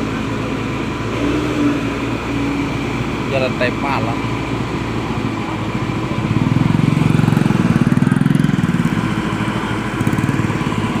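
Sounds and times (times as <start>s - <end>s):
small motorcycle engine revving: 0.0s - 11.0s.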